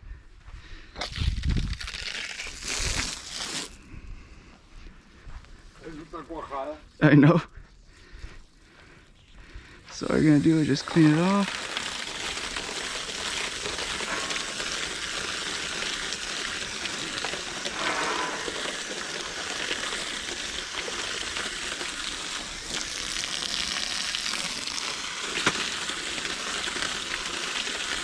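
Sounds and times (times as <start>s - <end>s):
hose water spraying on fins: 1.8s - 3.8s, 5.8s - 7.4s, 9.0s - 28.0s.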